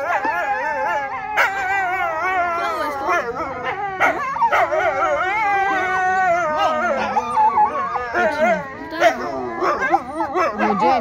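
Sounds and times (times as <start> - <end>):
wolf yips: 0.0 - 11.0
wolves howling in chorus: 0.0 - 11.0.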